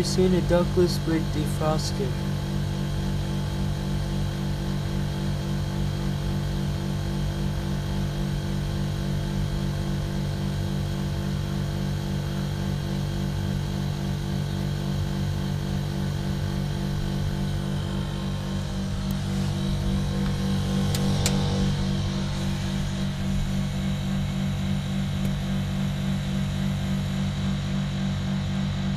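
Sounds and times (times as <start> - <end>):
air conditioner compressor humming: 0.0 - 28.9.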